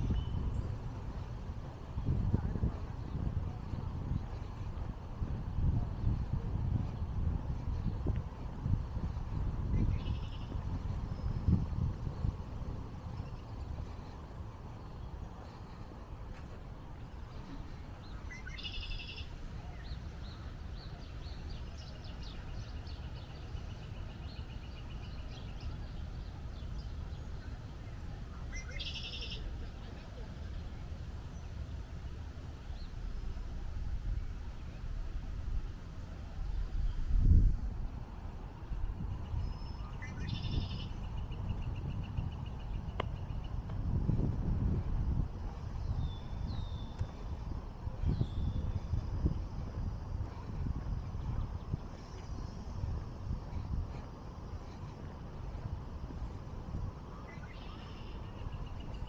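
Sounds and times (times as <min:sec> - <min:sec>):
songbirds calling: 0:00.0 - 0:35.0, 0:35.9 - 0:59.0
steady low rumble: 0:00.0 - 0:59.0.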